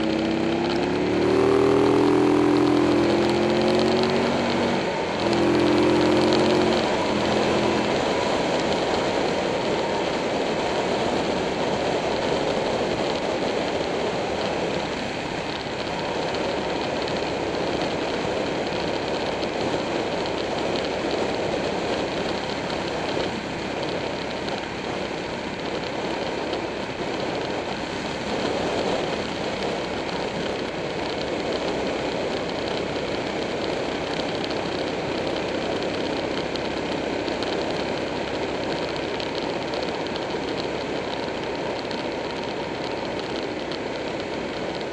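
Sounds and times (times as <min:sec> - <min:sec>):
motorcycle engine drone: 0:00.0 - 0:44.9
wind and road rush: 0:00.0 - 0:44.9.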